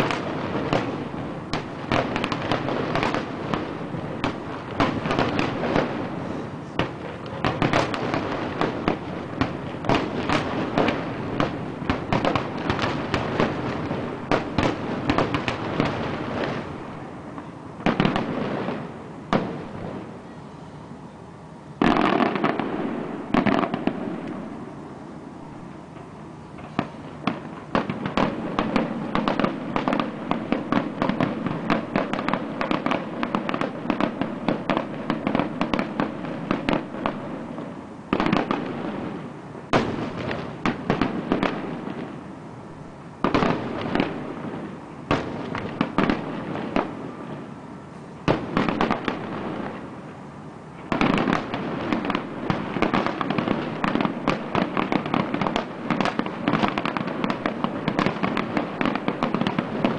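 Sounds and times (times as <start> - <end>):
fireworks bangs and crackles: 0.0 - 20.4, 21.7 - 59.9.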